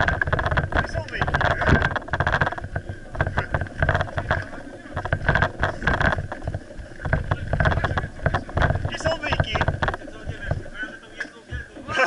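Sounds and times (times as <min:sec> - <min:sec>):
short knocks: 0:00.0 - 0:10.8
rumbling and rubbing on microphone: 0:00.0 - 0:12.0.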